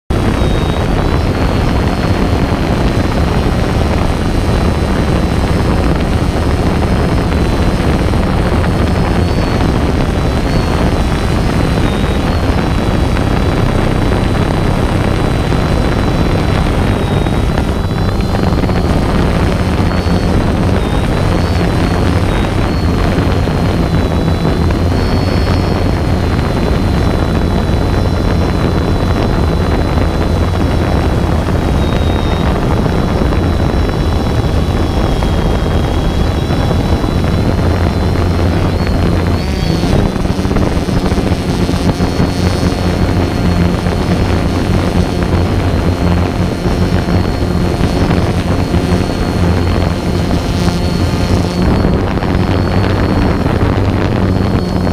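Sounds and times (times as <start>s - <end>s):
drone motors buzzing: 0.1s - 54.9s.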